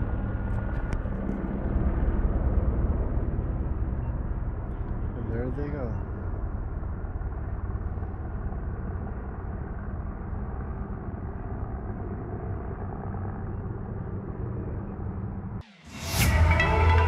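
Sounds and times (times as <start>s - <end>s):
helicopter drone: 0.0s - 17.0s.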